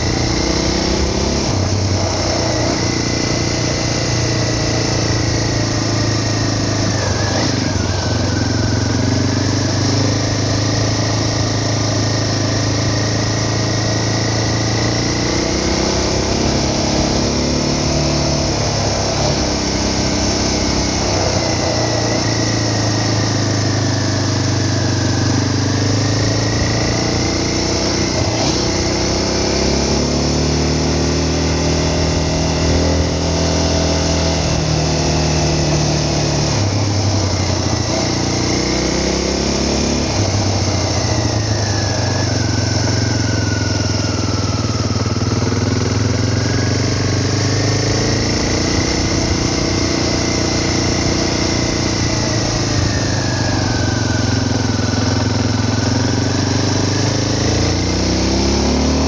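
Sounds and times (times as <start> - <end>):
high whine: 0.0 - 58.8
vehicle engine revving: 0.0 - 59.0.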